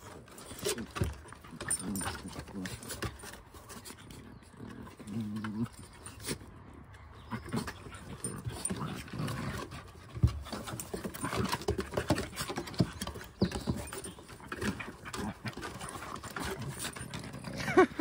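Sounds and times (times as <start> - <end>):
dogs scuffling: 0.0 - 6.5, 7.2 - 18.0
claws clicking on wooden decking: 0.0 - 17.8
dogs panting: 0.0 - 18.0.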